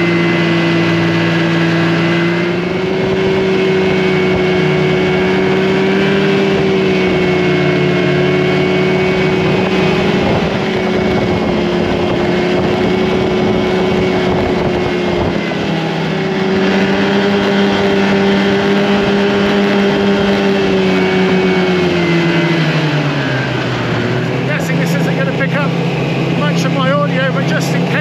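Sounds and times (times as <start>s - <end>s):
rushing wind noise: 0.0s - 28.0s
snowmobile engine running: 0.0s - 28.0s.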